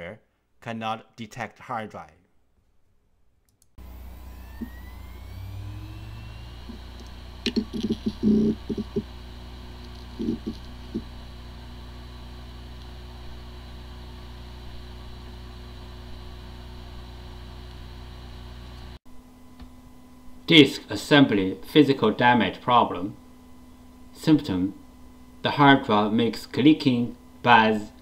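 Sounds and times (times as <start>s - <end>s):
hard disk spinning whine: 3.8s - 28.0s.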